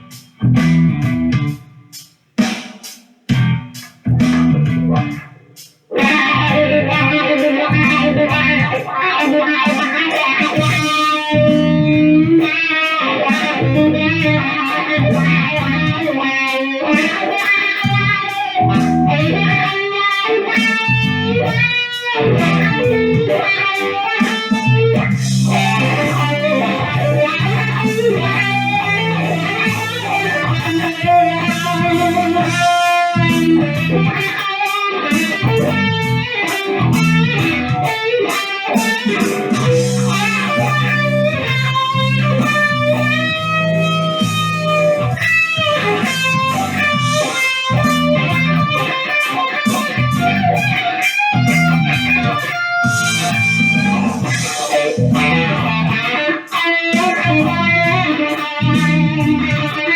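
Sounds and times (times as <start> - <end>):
electric guitar with wah pedal: 0.0 - 59.9.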